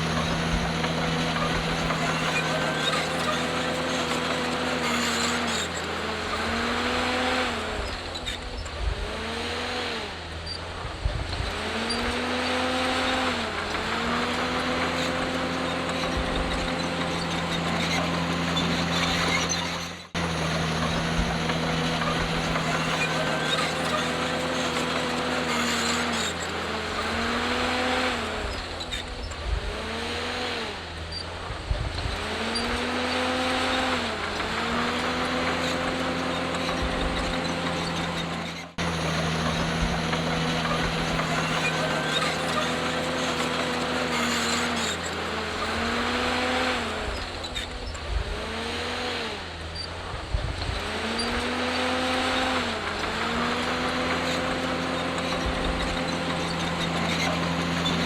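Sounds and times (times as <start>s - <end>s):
machinery clatter: 0.0s - 8.9s, 10.4s - 29.8s, 31.0s - 48.4s, 49.6s - 58.0s
bulldozer diesel engine under load: 0.0s - 58.0s.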